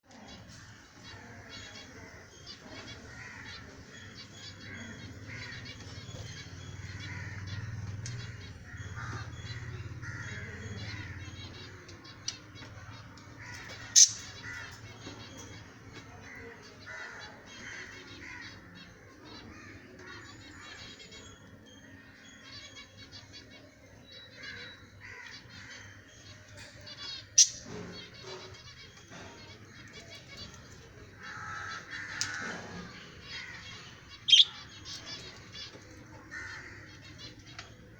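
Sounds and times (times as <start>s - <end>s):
lovebirds chattering: 0.0s - 37.9s.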